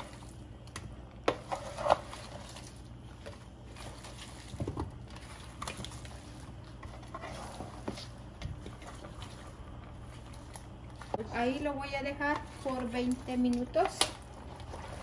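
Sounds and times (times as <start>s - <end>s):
soft wet shuffling of food: 0.0s - 15.0s.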